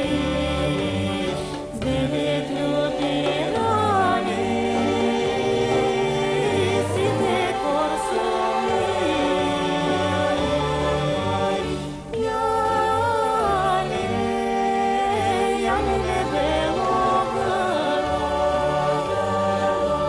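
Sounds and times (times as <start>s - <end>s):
folk song with chorus voices: 0.0s - 20.0s.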